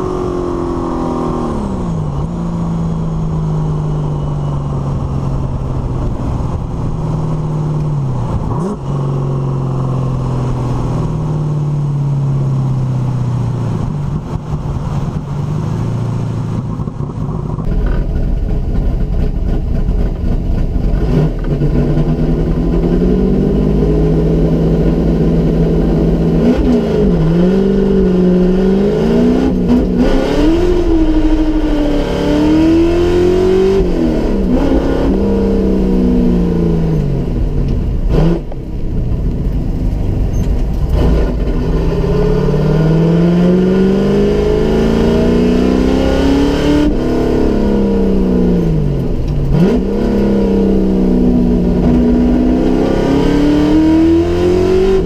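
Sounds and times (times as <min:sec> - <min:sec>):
car engine accelerating: 0:00.0 - 0:55.0
car engine running: 0:00.0 - 0:55.0.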